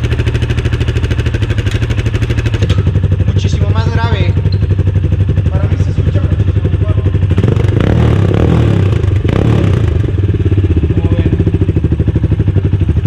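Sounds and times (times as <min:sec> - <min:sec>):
motorcycle exhaust idling: 0:00.0 - 0:13.0.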